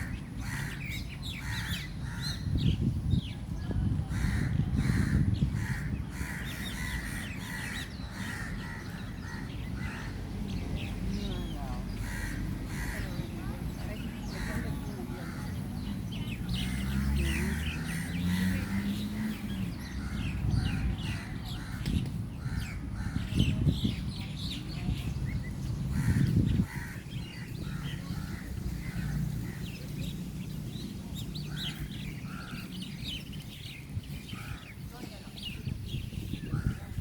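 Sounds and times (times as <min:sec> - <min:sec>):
flock of birds chirping: 0:00.0 - 0:37.0.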